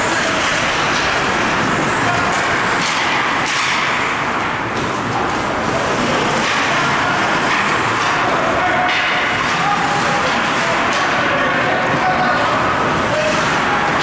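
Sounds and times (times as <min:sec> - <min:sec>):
indistinct crowd chatter: 0:00.0 - 0:14.0.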